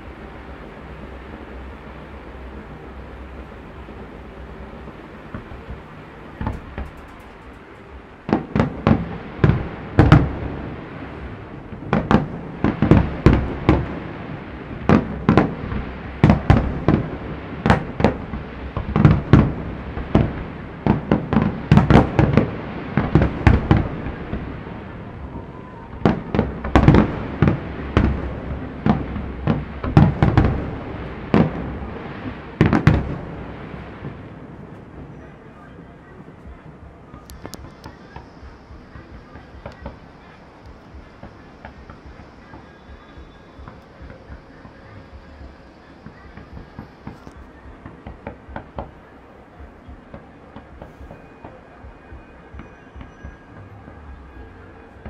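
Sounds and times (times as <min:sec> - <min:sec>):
fireworks bursting with loud bangs: 0:00.0 - 0:55.0.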